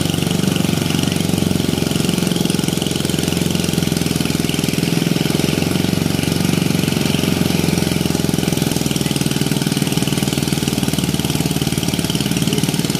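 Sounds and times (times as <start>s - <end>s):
rice thresher running: 0.0s - 12.9s.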